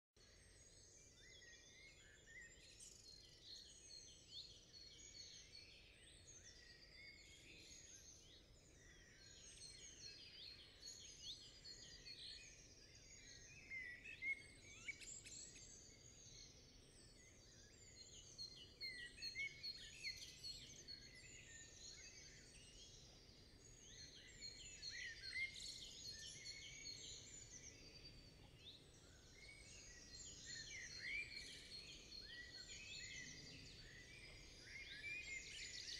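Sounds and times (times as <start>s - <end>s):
songbirds chirping and trilling: 0.3s - 35.9s.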